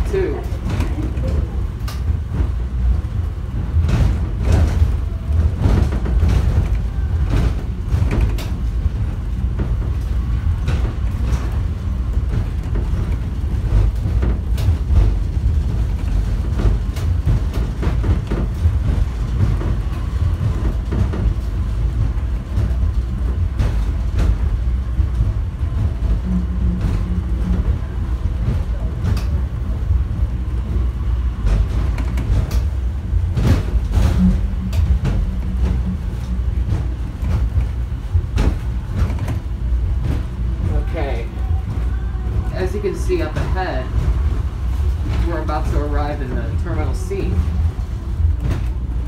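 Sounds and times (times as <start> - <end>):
knocks and clicks: 0.0 - 49.0
train car low rumble: 0.0 - 49.0.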